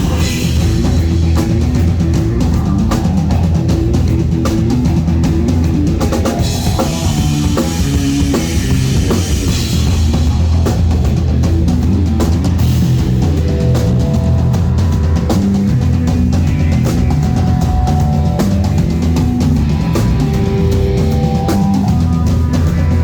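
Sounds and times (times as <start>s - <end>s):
driving drum kit: 0.0s - 23.0s
rock band playing live: 0.0s - 23.0s.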